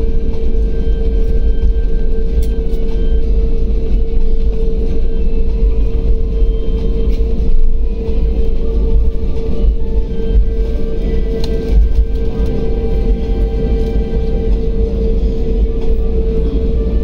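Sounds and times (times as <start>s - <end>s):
jet engines rumbling: 0.0s - 17.0s
mid-pitched cabin hum: 0.0s - 17.0s.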